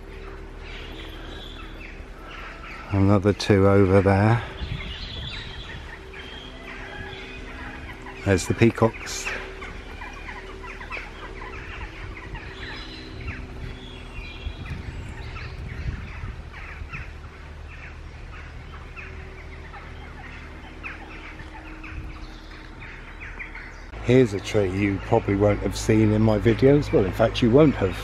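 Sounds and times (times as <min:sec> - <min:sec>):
peafowl clucking: 0:00.0 - 0:28.0
small birds chirping: 0:00.0 - 0:28.0
steady low hum: 0:00.0 - 0:28.0.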